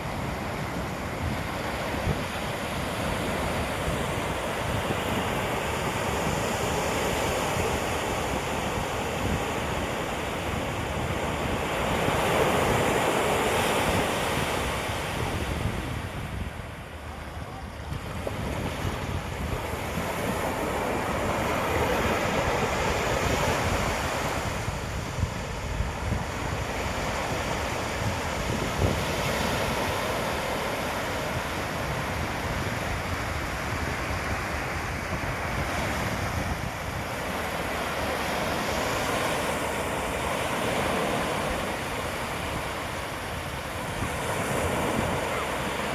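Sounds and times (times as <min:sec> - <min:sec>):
sea waves washing onto beach: 0:00.0 - 0:45.9
wind rumbling on microphone: 0:00.0 - 0:45.9.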